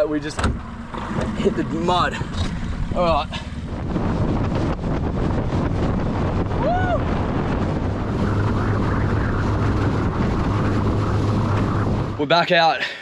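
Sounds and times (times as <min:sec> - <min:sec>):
wind on microphone: 0:00.0 - 0:12.4
outboard motor running: 0:00.0 - 0:13.0
water rushing past hull: 0:00.0 - 0:13.0.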